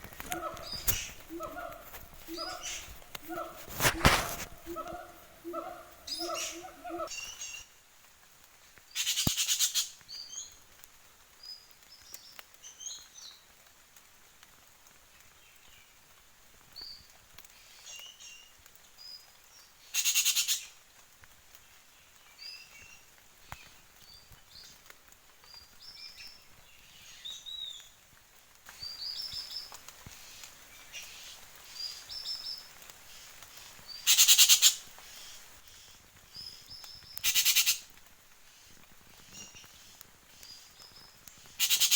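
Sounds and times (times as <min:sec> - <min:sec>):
forest birds chirping: 0:00.0 - 0:08.0, 0:08.6 - 0:13.7, 0:16.8 - 0:20.8, 0:21.5 - 0:41.9.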